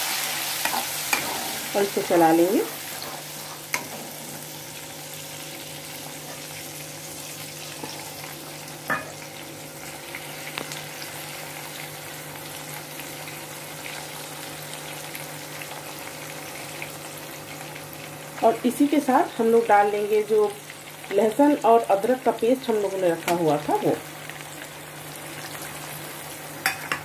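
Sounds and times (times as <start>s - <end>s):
paste sizzling in hot oil: 0.0s - 27.0s.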